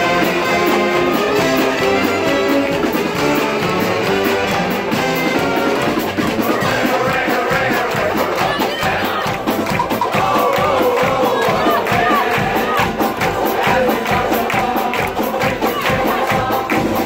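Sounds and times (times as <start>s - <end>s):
saxophones playing tune: 0.0s - 16.6s.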